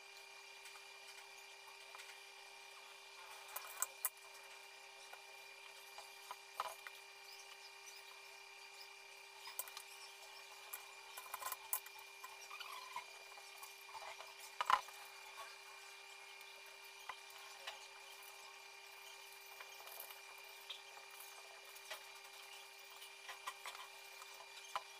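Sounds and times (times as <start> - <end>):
faint steady hum: 0.0 - 24.9.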